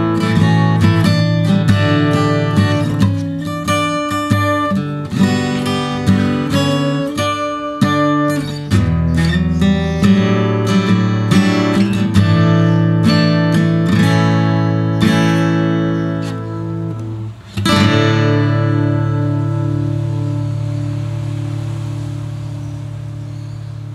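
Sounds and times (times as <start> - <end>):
fingerstyle acoustic guitar: 0.0 - 23.9.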